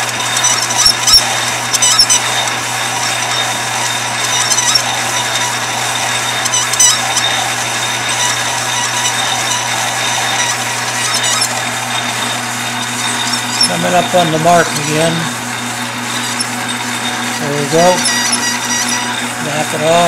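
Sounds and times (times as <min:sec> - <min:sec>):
high squeaks from cutting: 0:00.0 - 0:20.0
lathe motor hum: 0:00.0 - 0:20.0.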